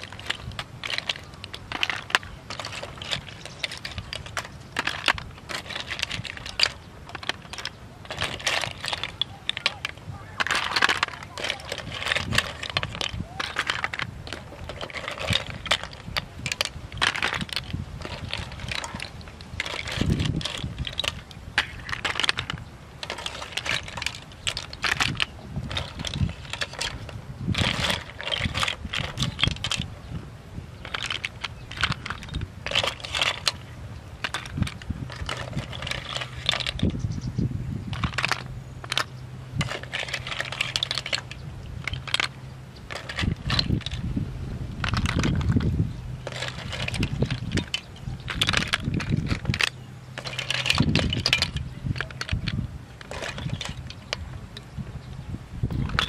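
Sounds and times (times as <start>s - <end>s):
snail shells clicking: 0.0s - 29.9s, 30.8s - 37.0s, 44.8s - 54.2s.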